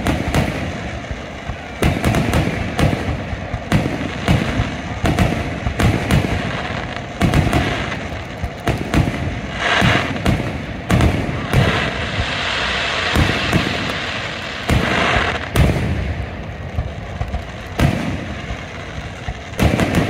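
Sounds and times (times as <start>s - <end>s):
fireworks booming: 0.0s - 20.0s
fireworks hiss: 0.0s - 20.0s.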